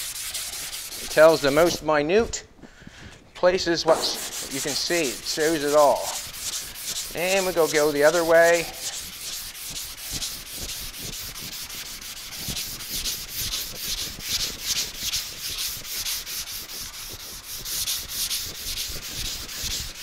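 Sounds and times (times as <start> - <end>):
sanding block scraping: 0.0 - 1.8, 3.9 - 20.0.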